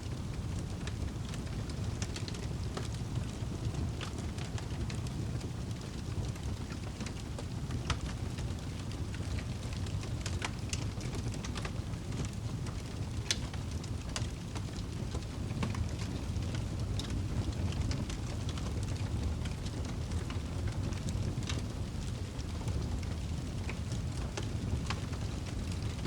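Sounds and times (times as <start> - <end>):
fire crackling: 0.0 - 26.0
low rumble of flames: 0.0 - 26.0.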